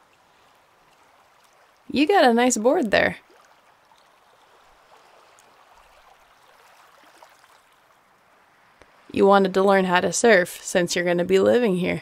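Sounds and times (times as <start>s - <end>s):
waves washing on shore: 0.0s - 9.8s.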